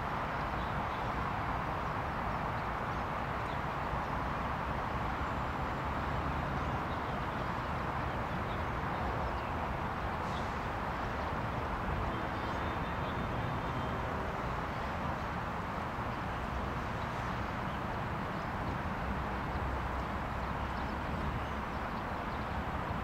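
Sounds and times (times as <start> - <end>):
distant road traffic hiss: 0.0 - 23.0.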